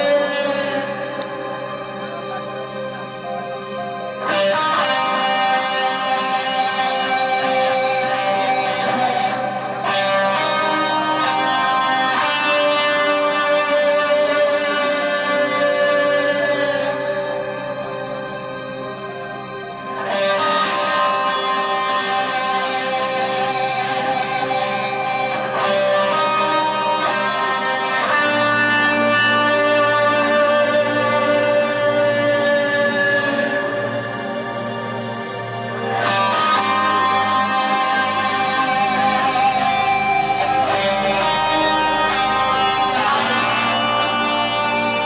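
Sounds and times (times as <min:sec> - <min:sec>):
electric guitar chord ringing: 0:00.0 - 0:45.0.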